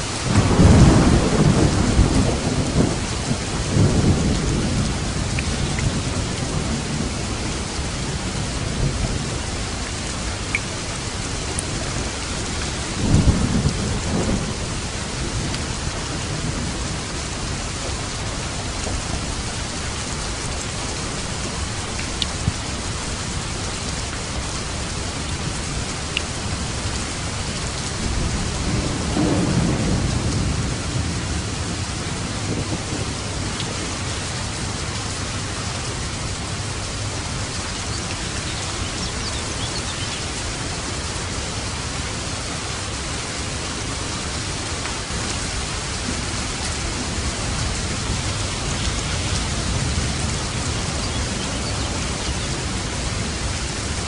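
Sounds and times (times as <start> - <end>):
thunder rumbling: 0.0 - 10.5, 11.2 - 23.4, 24.4 - 40.8, 45.1 - 54.0
heavy rain on a roof: 0.0 - 54.0.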